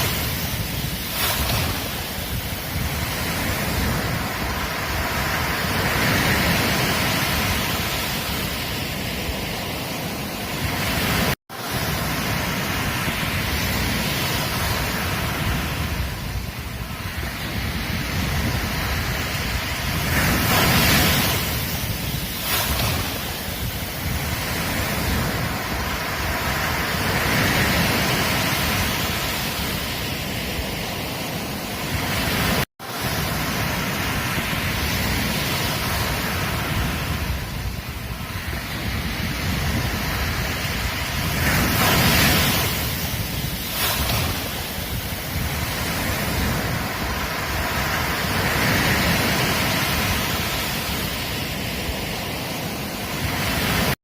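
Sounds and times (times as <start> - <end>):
ocean surf washing onto beach: 0.0 - 54.0.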